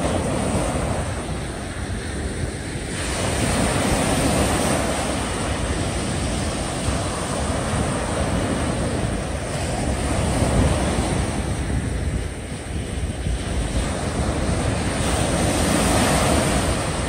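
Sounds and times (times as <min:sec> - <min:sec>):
small waves washing on beach: 0:00.0 - 0:17.0
wind rumbling on microphone: 0:00.0 - 0:17.0.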